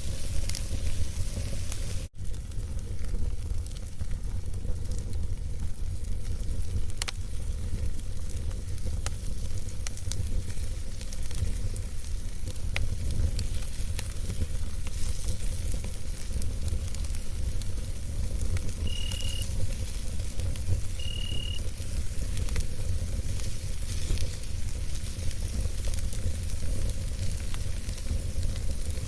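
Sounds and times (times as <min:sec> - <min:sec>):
campfire crackles and pops: 0:00.0 - 0:29.0
fire low rumble and hiss: 0:00.0 - 0:29.0.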